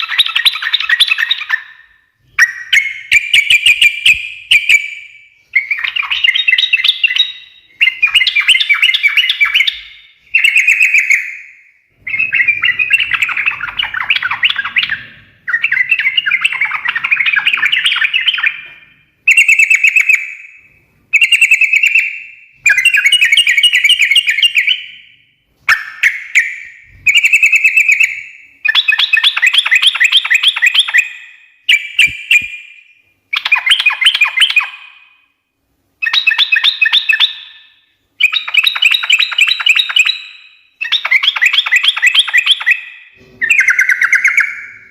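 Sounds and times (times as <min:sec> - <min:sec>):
bird singing bubbly phrases: 0:00.0 - 0:35.0, 0:36.0 - 0:37.6, 0:38.2 - 0:44.9.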